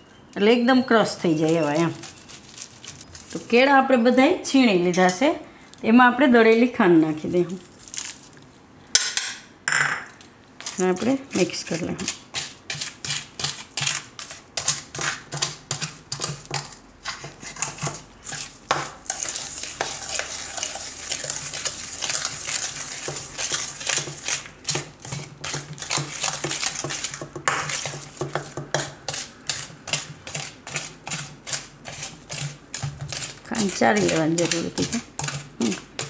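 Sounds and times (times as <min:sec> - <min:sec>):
spoon stirring in a metal bowl: 0:00.4 - 0:03.6, 0:09.0 - 0:36.0.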